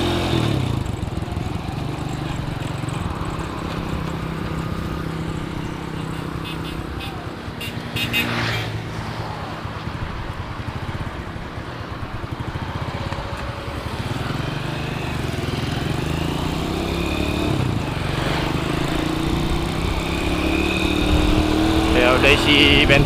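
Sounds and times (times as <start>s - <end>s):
motorcycle engine accelerating: 0.0s - 8.4s, 9.9s - 23.0s.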